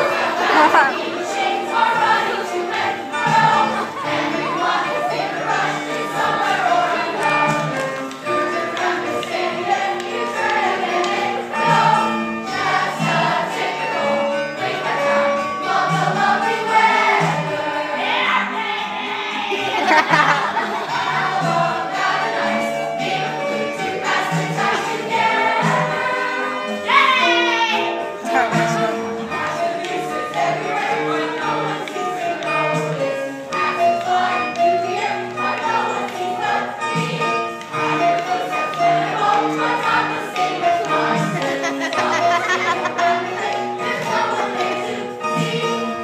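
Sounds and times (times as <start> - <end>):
chorus singing: 0.0 - 46.0
instrumental accompaniment: 0.0 - 46.0.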